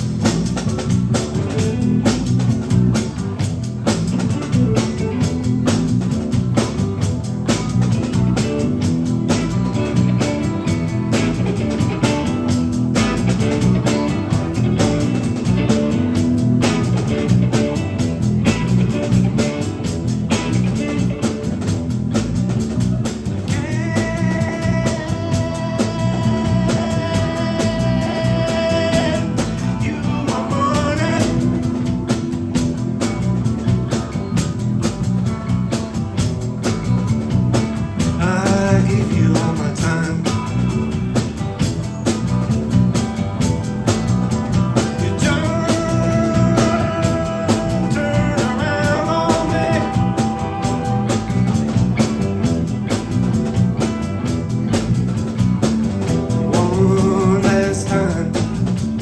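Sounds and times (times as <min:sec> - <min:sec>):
bass: 0:00.0 - 0:59.0
lead guitar bending notes: 0:00.0 - 0:59.0
steady drum beat: 0:00.0 - 0:59.0.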